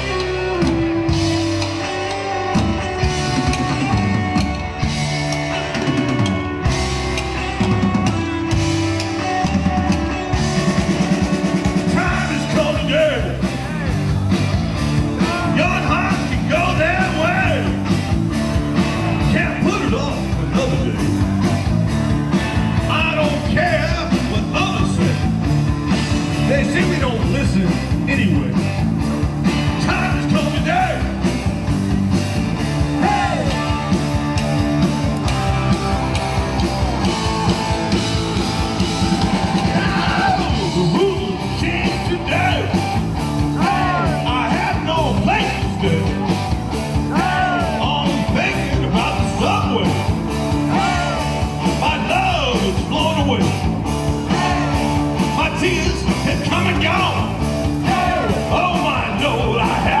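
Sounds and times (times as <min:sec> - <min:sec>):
electric guitar lead line: 0:00.0 - 1:00.0
rock band playing: 0:00.0 - 1:00.0.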